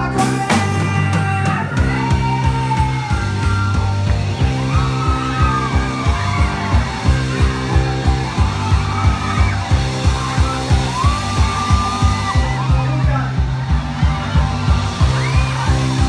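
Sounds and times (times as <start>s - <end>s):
live rock band playing: 0.0s - 16.0s
children yelling: 0.8s - 16.0s.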